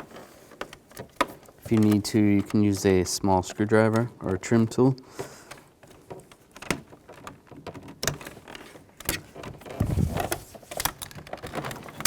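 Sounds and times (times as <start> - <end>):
handling noise: 0.0 - 12.0.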